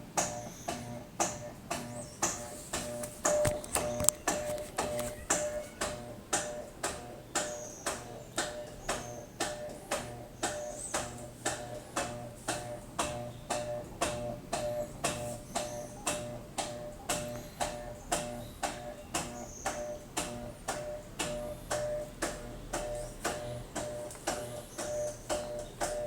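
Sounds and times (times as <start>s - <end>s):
washing machine ticking clicks: 0.0s - 26.0s.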